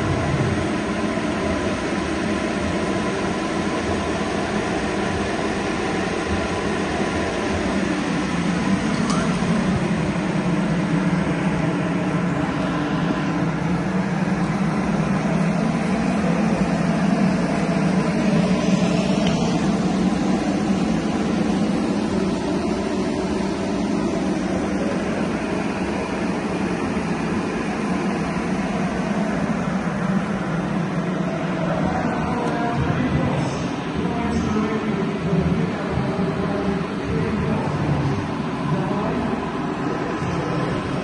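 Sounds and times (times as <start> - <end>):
low machine drone hum: 0.0 - 41.0.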